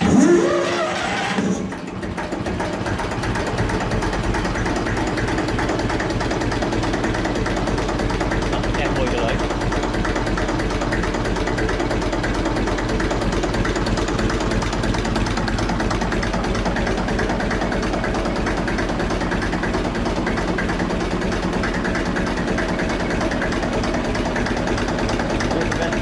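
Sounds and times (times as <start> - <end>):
old engine idling: 0.0 - 26.0.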